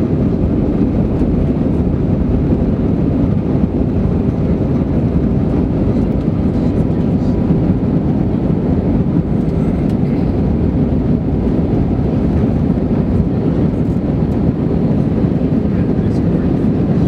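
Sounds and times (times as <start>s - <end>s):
jet engine and airflow rumble: 0.0s - 17.0s.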